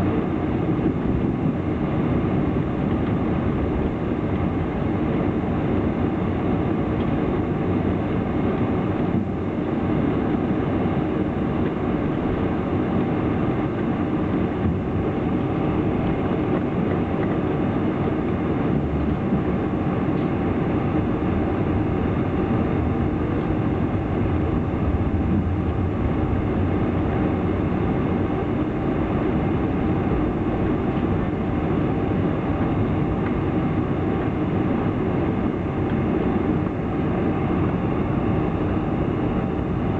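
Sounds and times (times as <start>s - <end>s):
jet engines running at low power: 0.0s - 39.9s
wheels rumbling on taxiway: 0.0s - 39.9s.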